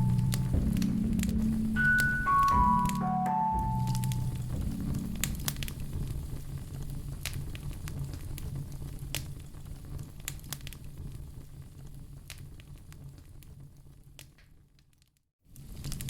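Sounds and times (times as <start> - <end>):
wood fire crackling: 0.0 - 1.8, 4.1 - 16.0
low steady rumble: 0.0 - 13.9.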